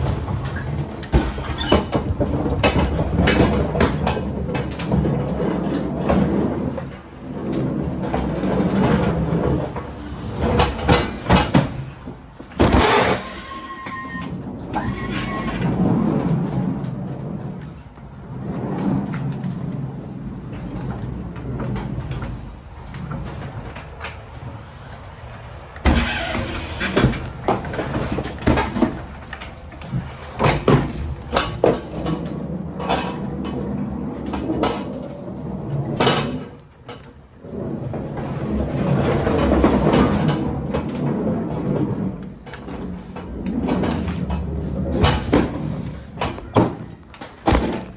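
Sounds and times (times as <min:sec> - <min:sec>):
pallets knocking and clanking: 0:00.0 - 0:17.9, 0:25.9 - 0:37.3, 0:38.0 - 0:47.9.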